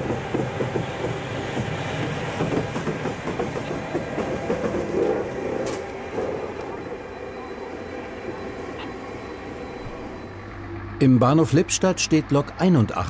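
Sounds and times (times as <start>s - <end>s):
locomotive rolling past: 0.0s - 13.0s.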